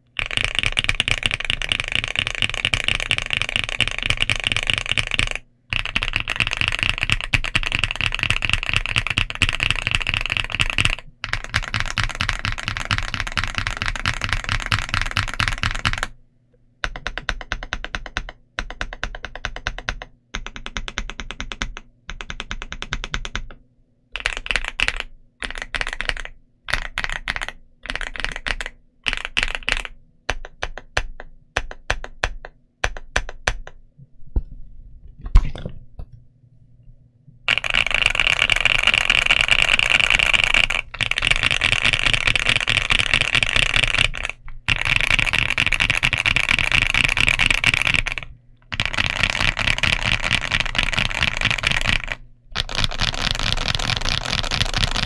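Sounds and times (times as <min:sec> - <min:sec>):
mechanical keyboard typing: 0:00.2 - 0:16.2, 0:16.8 - 0:23.6, 0:24.2 - 0:33.8, 0:37.5 - 0:55.0.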